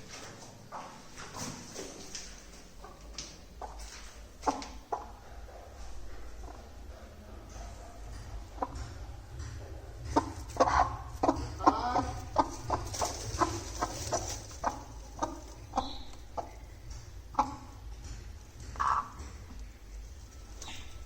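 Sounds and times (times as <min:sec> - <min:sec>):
steady low rumble: 0:02.4 - 0:21.0
hen clucking: 0:02.8 - 0:21.0.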